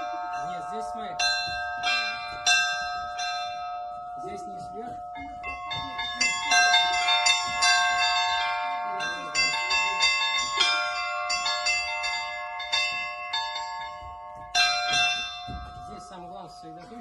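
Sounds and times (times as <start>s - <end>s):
large bells ringing: 0.0s - 17.0s
small bells struck quickly: 0.0s - 17.0s.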